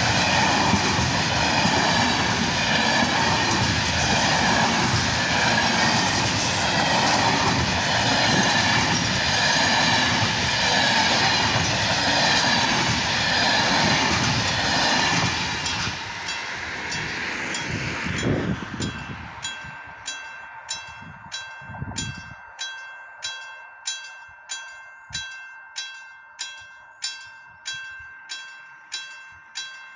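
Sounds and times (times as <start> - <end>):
freight train wheels on rails: 0.0 - 29.9.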